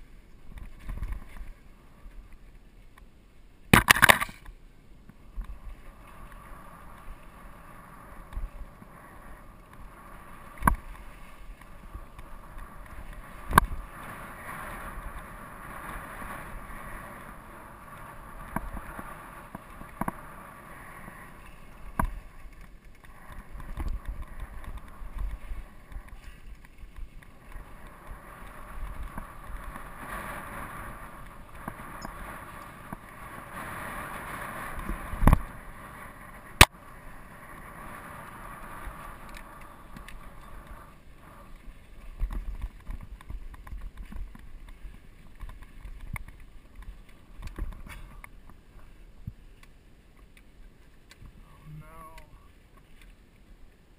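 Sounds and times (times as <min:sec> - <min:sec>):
bike tyres on dirt: 0:00.0 - 0:53.9
bike rattling: 0:05.1 - 0:52.2.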